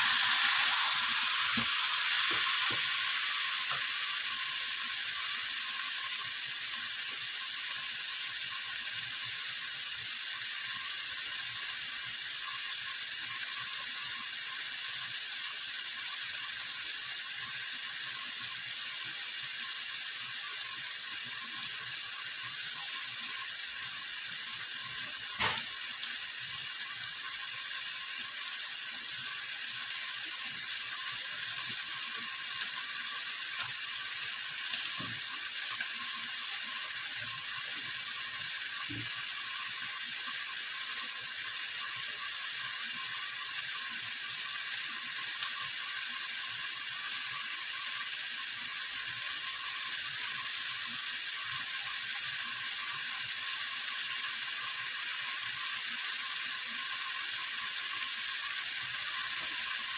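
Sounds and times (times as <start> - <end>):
chicken sizzling in a pot: 0.0 - 59.9.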